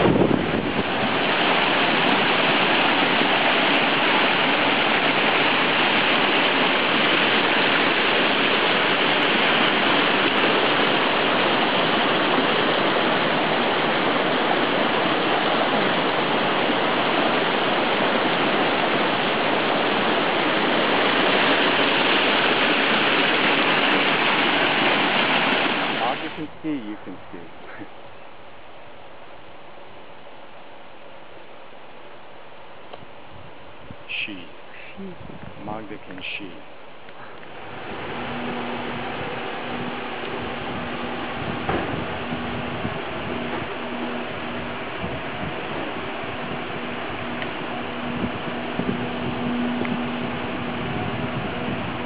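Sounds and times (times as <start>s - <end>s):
creek rushing over rocks: 0.0s - 28.2s, 34.0s - 52.0s.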